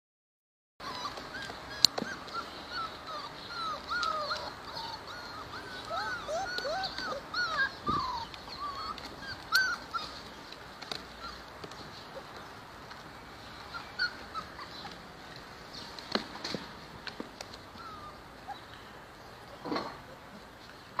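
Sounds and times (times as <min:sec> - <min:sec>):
puppies whining: 0:00.8 - 0:16.4, 0:17.1 - 0:21.0.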